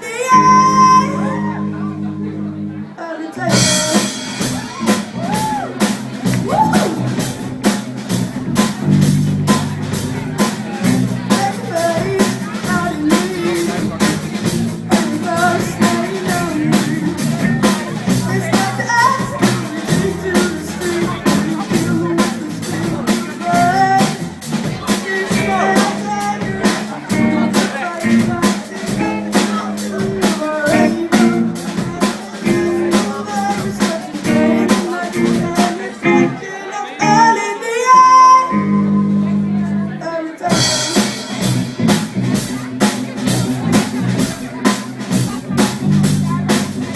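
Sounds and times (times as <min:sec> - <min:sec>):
person singing: 0:00.0 - 0:07.3, 0:10.4 - 0:41.7
guitar: 0:00.0 - 0:46.9
drum kit beat: 0:03.5 - 0:36.4, 0:40.4 - 0:46.9.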